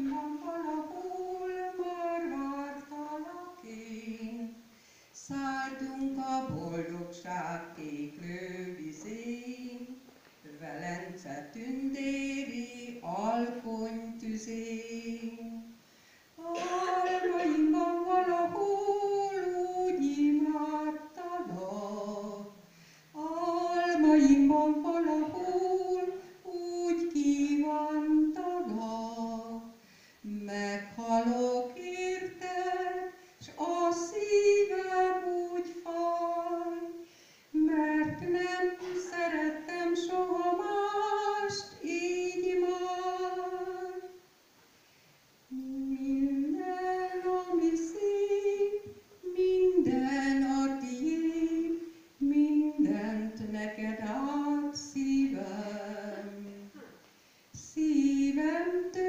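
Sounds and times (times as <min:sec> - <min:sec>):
woman singing unaccompanied: 0:00.0 - 0:44.4, 0:45.5 - 0:56.9, 0:57.5 - 0:59.0.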